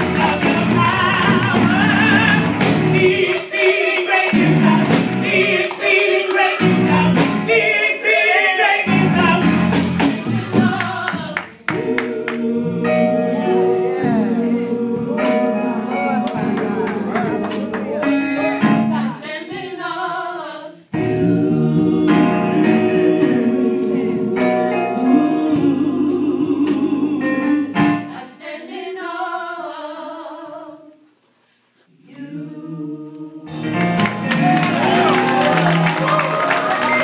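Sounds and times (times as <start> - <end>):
gospel song with singing: 0.0 - 37.0.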